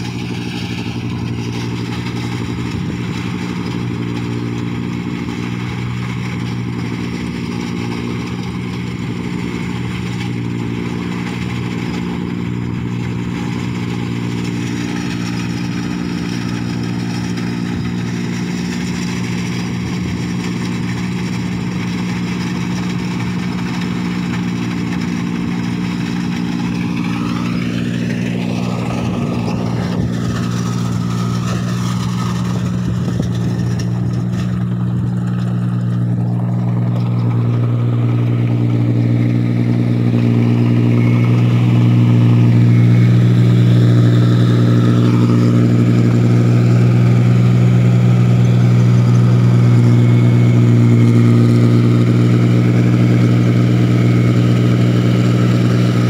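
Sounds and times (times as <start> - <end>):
harvester engine humming: 0.0 - 56.0.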